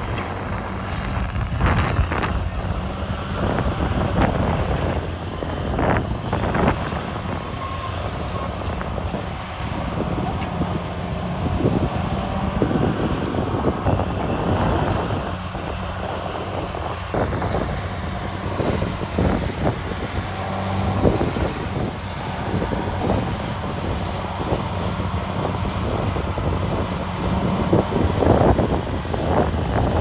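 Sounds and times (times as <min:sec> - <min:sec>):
bulldozer diesel engine running: 0:00.0 - 0:30.0
steel tracks clanking: 0:00.0 - 0:30.0.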